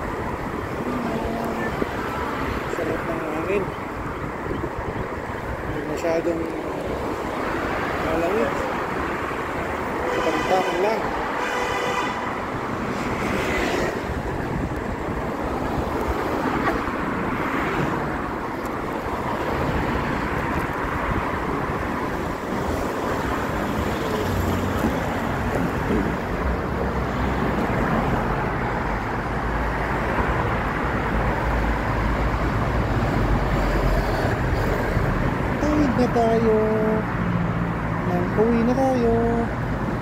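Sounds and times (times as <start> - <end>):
cars driving past: 0.0 - 38.4
car passing close rumble: 0.0 - 40.0.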